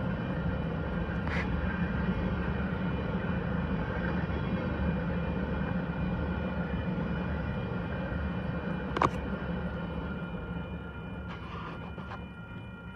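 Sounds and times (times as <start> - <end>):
freight train rumbling past: 0.0 - 12.9.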